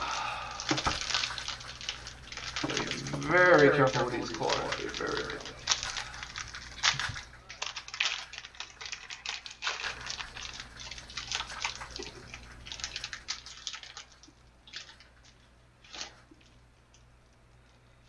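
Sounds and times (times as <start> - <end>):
plastic wrapper crinkling: 0.0 - 18.0.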